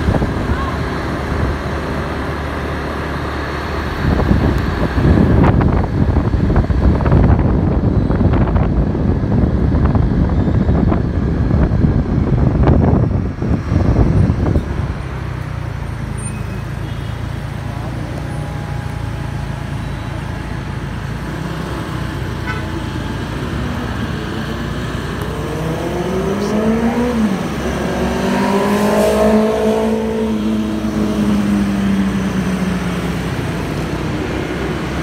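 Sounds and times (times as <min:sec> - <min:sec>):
vehicle engine and tyre rumble: 0:00.0 - 0:35.0.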